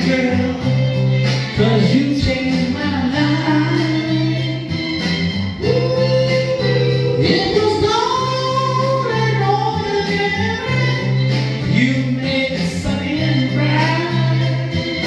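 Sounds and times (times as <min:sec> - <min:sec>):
backing track with bass note: 0:00.0 - 0:15.0
men singing into microphones: 0:01.5 - 0:04.7, 0:05.6 - 0:15.0.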